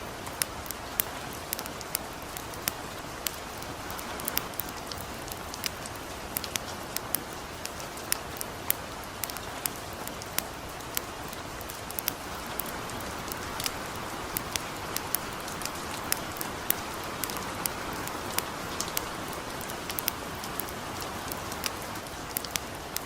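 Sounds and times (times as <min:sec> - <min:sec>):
campfire crackling: 0:00.0 - 0:23.0
light rain falling: 0:00.0 - 0:23.0.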